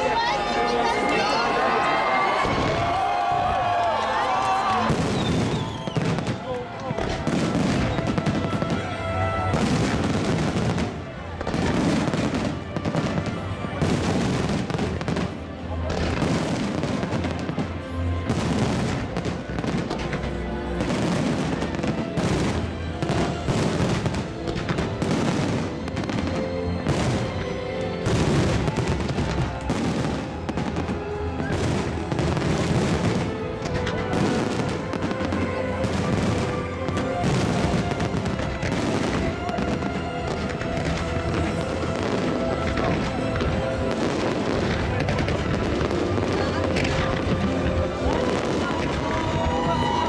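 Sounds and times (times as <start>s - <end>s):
fireworks bangs and crackles: 0.0s - 50.0s
loud music: 4.2s - 50.0s.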